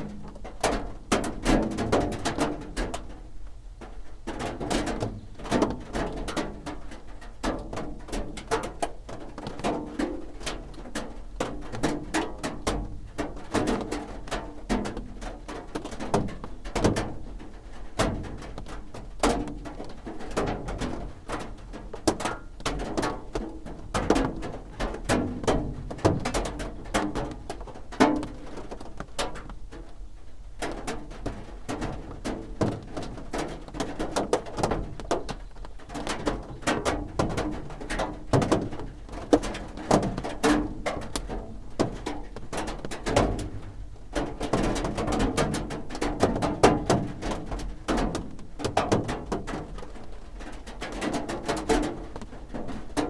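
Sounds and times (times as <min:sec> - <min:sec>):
rain drumming on a roof: 0:00.0 - 0:53.0.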